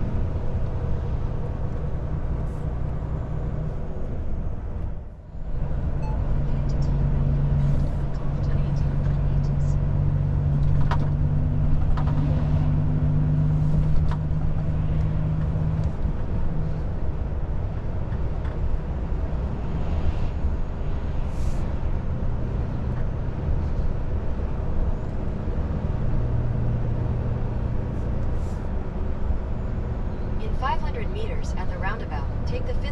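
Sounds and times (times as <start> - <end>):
truck diesel engine drone: 0.0 - 32.9.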